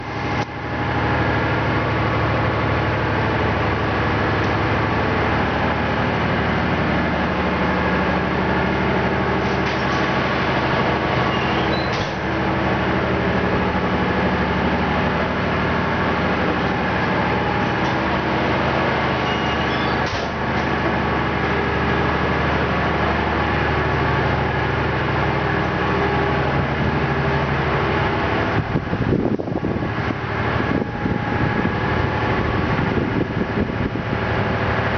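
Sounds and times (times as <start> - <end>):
engine-room machinery humming: 0.0 - 34.9.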